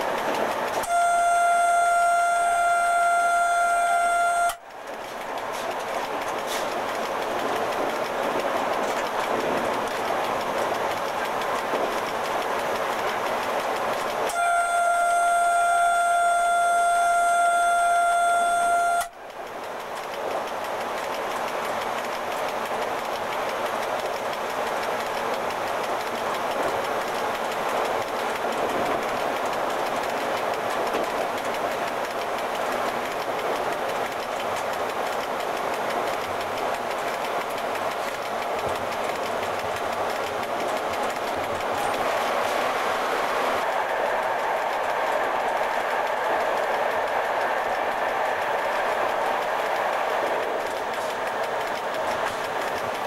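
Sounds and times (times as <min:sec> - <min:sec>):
locomotive running noise: 0:00.0 - 0:53.0.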